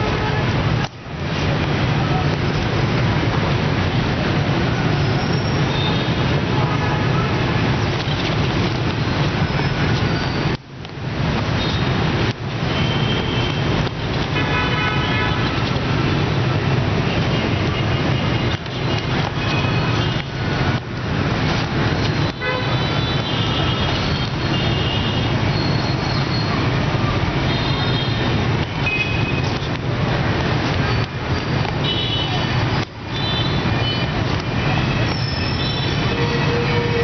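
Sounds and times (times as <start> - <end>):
traffic engine rumble: 0.0 - 37.0.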